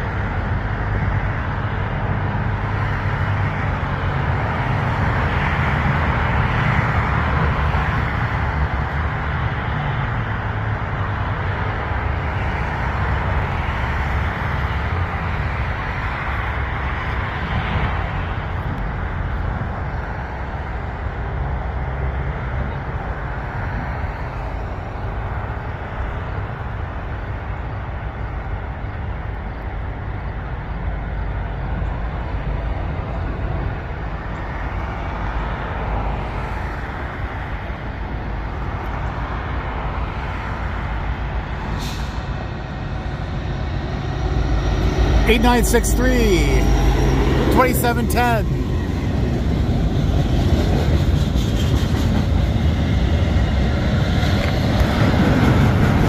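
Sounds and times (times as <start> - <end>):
train engine and wheels rumbling: 0.0 - 56.0.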